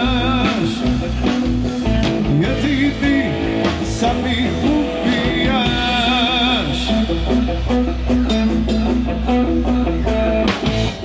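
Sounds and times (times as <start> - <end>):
electric guitar with bent notes: 0.0 - 11.0
steady bass: 0.0 - 11.0.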